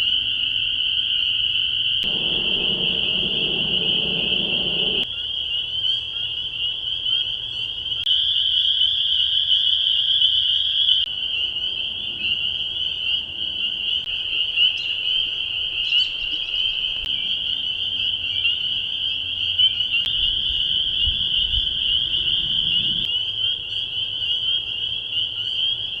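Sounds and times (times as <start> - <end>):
chorus of spring peepers: 0.0 - 26.0.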